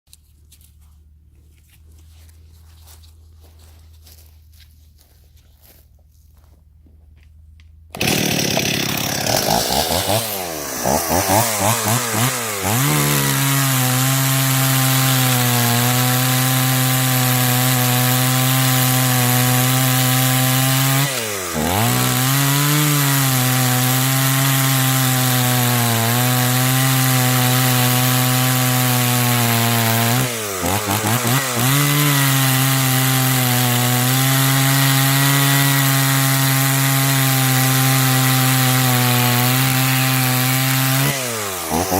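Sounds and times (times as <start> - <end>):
chainsaw revving: 7.9 - 41.9.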